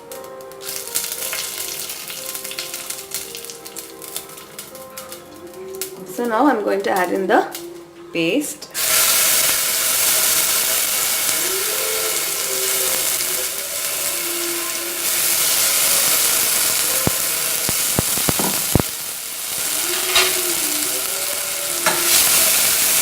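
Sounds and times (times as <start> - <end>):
spice paste sizzling in oil: 0.0 - 7.1, 8.8 - 23.0.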